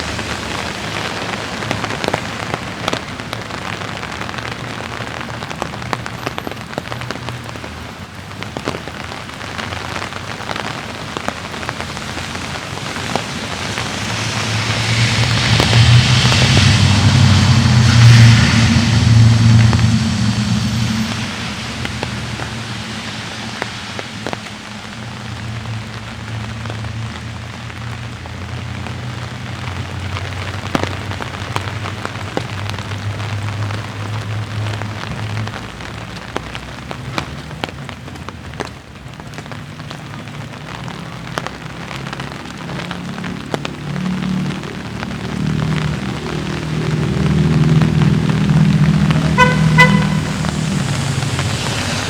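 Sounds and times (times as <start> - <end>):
light rain falling: 0.0 - 52.0
low rumble of road traffic: 0.0 - 52.0
raindrop ticks: 0.0 - 52.0.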